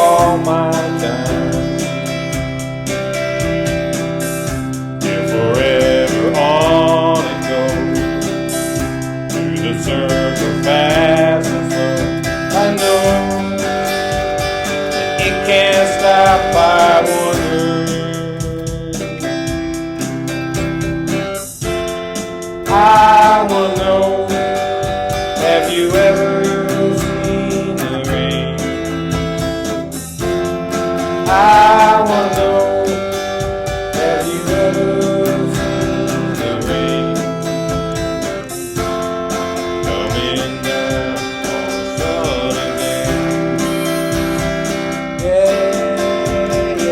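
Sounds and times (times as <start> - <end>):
guitar-led band music: 0.0 - 46.9.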